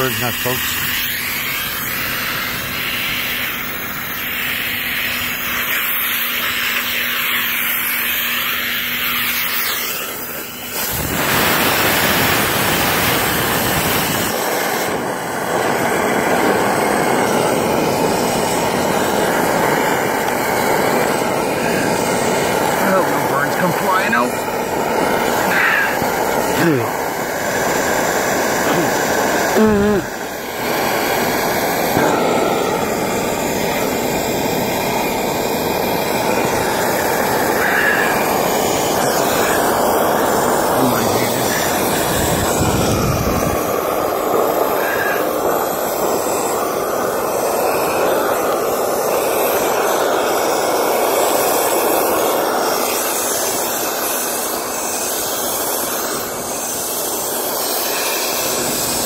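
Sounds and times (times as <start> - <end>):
air rushing through vent duct: 0.0 - 59.0.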